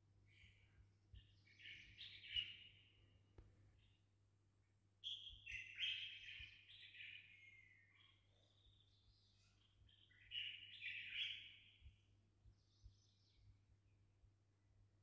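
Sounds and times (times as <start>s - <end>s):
songbird singing: 0.1s - 4.2s, 5.0s - 14.1s.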